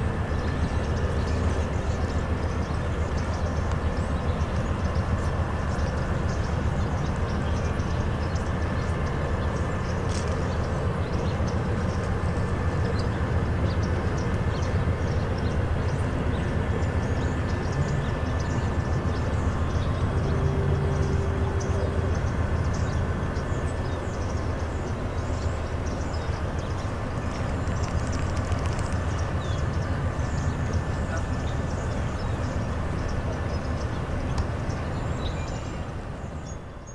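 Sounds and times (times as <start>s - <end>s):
distant train rumbling: 0.0s - 36.9s.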